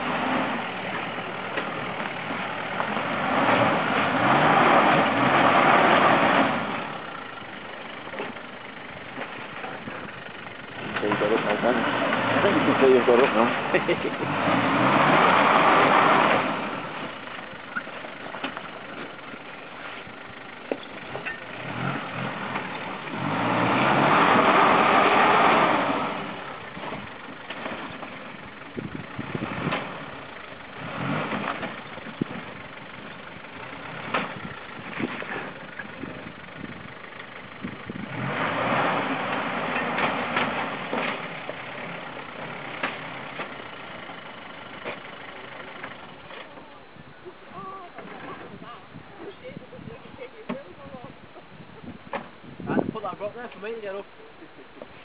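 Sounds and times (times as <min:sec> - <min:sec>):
car engine revving: 0:00.0 - 0:46.6.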